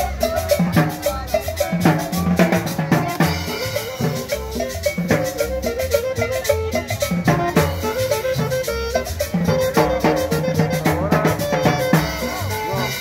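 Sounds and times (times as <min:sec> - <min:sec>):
upbeat latin dance-band music: 0:00.0 - 0:13.0.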